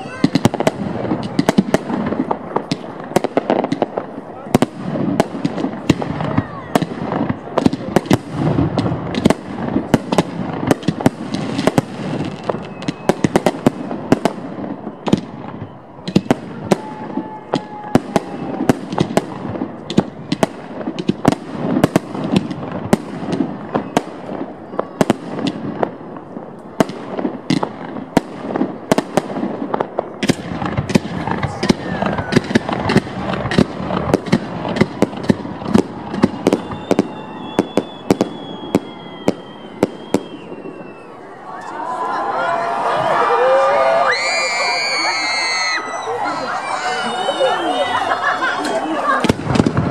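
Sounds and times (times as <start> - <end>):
firework bangs: 0.0 - 41.6, 42.5 - 49.9
fireworks crackling: 0.0 - 49.9.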